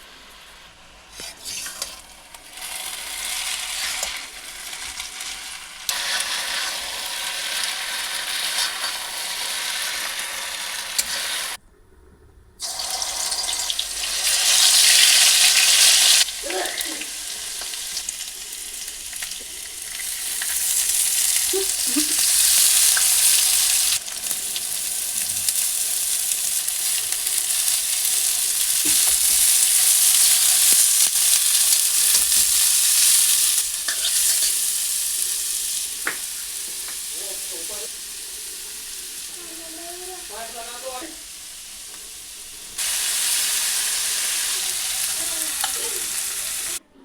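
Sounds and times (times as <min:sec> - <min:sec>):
food sizzling in hot oil: 0:00.0 - 0:11.6, 0:12.6 - 0:46.8
stirring in a pan: 0:01.1 - 0:11.6, 0:16.2 - 0:46.8.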